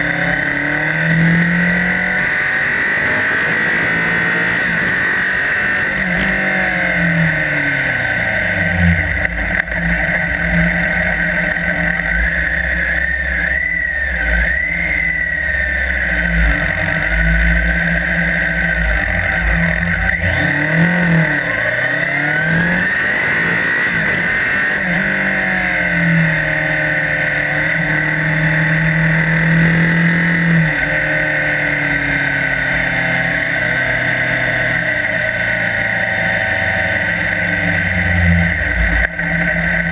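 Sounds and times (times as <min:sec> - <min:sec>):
motorcycle engine revving: 0:00.0 - 0:39.9
steady high whine: 0:00.0 - 0:39.9.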